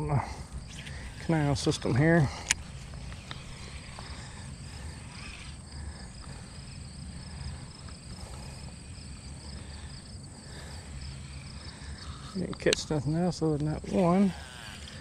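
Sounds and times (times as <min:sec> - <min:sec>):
insects chirping in high trill: 0:00.0 - 0:15.0.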